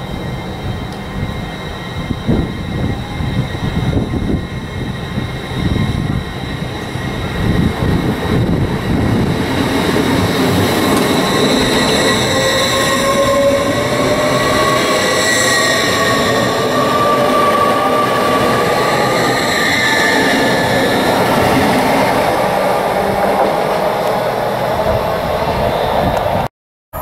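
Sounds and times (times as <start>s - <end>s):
train wheels rumbling on rail: 0.0s - 26.5s
rising train whine: 0.0s - 27.0s.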